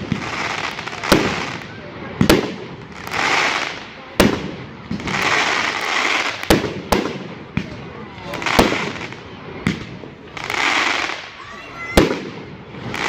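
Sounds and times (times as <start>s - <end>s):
fireworks bangs: 0.0s - 13.0s
fireworks hissing and crackling: 0.0s - 13.0s.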